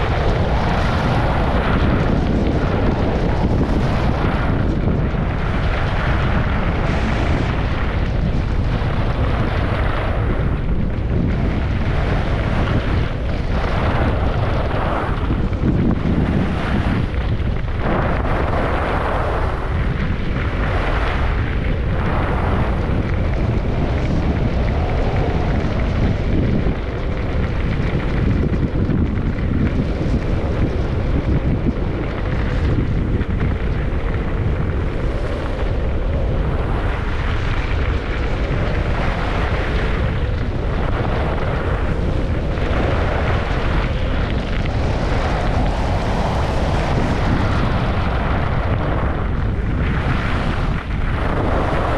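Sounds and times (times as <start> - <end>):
skis scraping over snow: 0.0 - 51.9
wind buffeting microphone: 0.0 - 51.9.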